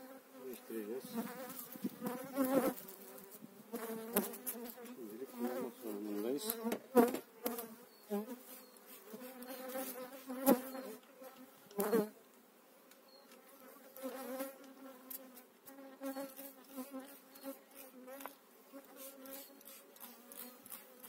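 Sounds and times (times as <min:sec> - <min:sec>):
bees buzzing: 0:00.0 - 0:12.2, 0:13.5 - 0:21.0.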